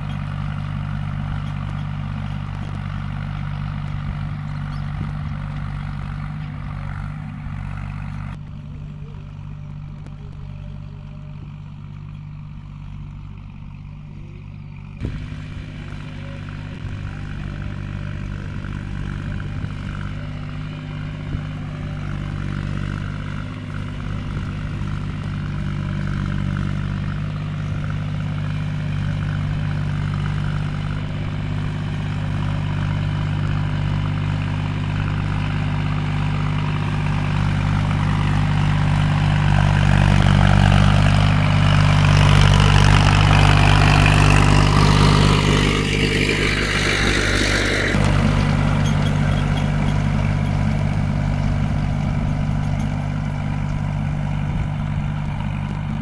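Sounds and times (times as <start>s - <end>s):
harsh noise over engine: 0.0s - 56.0s
tractor diesel engine running: 0.0s - 56.0s.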